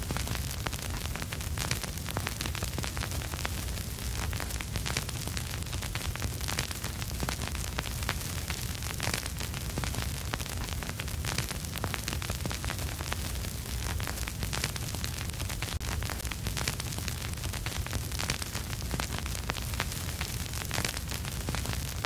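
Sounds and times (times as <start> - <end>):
steady hiss: 0.0 - 22.0
vinyl crackle and pops: 0.0 - 22.0.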